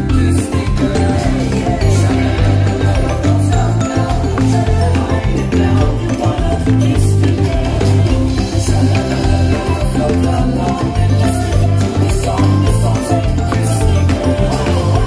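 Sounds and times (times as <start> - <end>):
upbeat show music with bass: 0.0 - 15.0.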